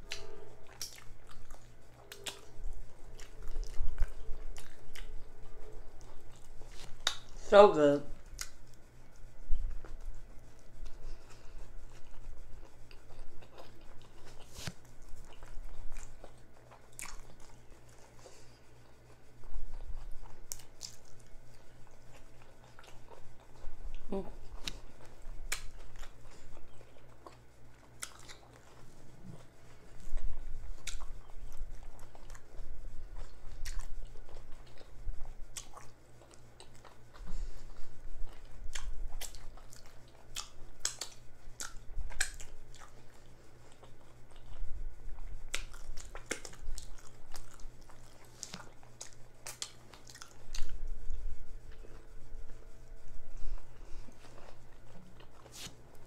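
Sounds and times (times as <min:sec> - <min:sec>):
chewing with wet lip smacks: 0:00.0 - 0:07.3, 0:08.3 - 0:08.7, 0:11.8 - 0:52.1.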